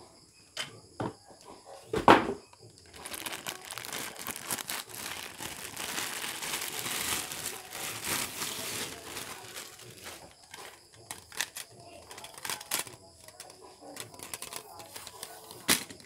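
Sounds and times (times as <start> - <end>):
plastic packaging crinkling: 2.8 - 16.0.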